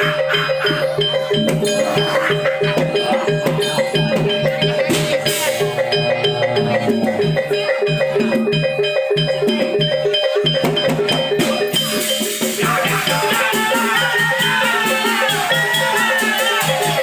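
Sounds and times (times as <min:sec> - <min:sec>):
drums and metal percussion ensemble: 0:00.0 - 0:17.0
high wavering melody: 0:00.0 - 0:17.0.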